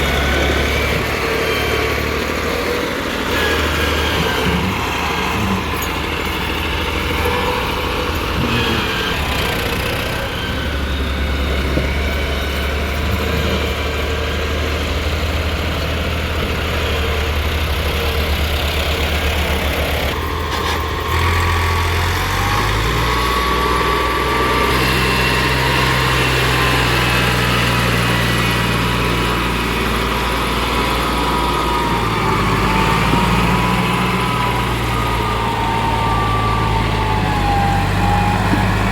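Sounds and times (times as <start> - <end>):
diesel digger engine running: 0.0 - 38.9.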